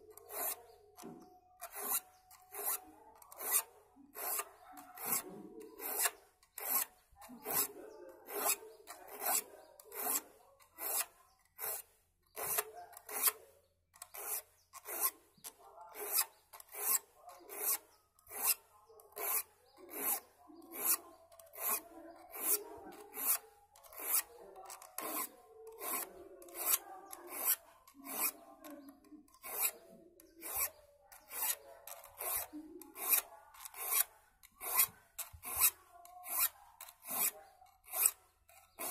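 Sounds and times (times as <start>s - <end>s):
metal file rasping on saw teeth: 0.0s - 38.9s.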